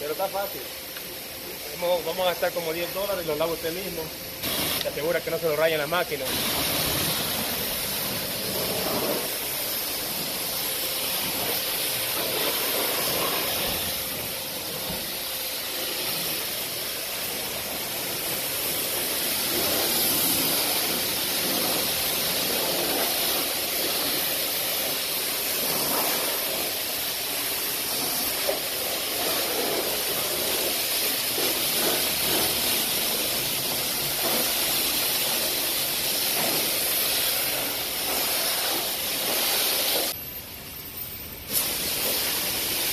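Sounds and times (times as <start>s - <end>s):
pressure washer spray hissing: 0.0s - 40.2s, 41.4s - 42.9s.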